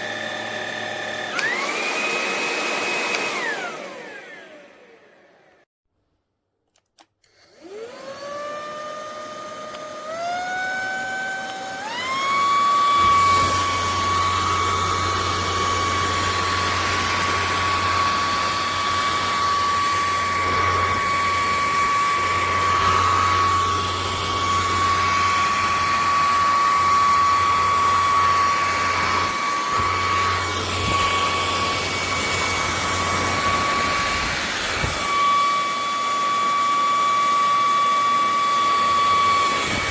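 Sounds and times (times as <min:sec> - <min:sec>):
vacuum motor whining: 0:00.0 - 0:05.6, 0:07.2 - 0:39.9.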